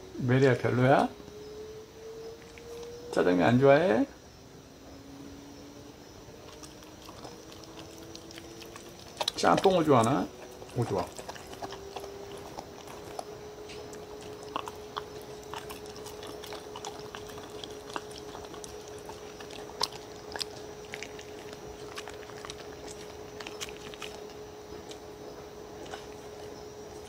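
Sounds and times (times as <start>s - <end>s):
faint steady hum: 0.0s - 27.0s
dog chewing and licking: 2.3s - 3.7s, 6.2s - 27.0s.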